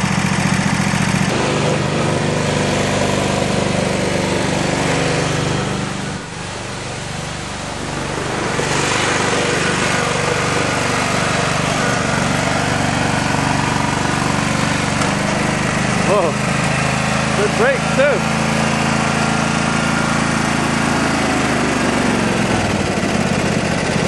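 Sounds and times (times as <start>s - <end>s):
lawn tractor engine running: 0.0s - 24.0s.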